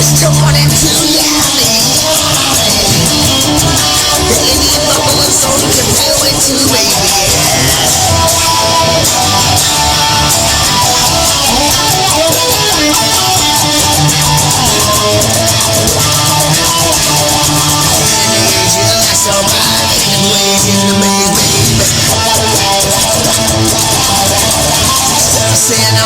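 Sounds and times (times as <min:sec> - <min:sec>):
guitar melodic line: 0:00.0 - 0:26.0
rock band instrumental: 0:00.0 - 0:26.0.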